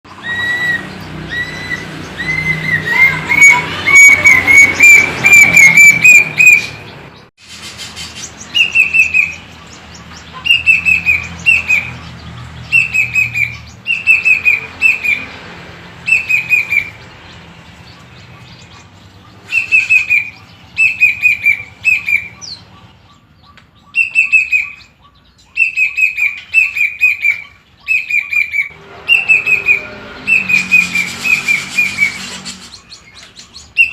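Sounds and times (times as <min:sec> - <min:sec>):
cuckoo whistling song: 0:00.1 - 0:06.8, 0:08.5 - 0:09.5, 0:10.4 - 0:11.9, 0:12.7 - 0:15.2, 0:16.1 - 0:17.0, 0:19.4 - 0:33.9.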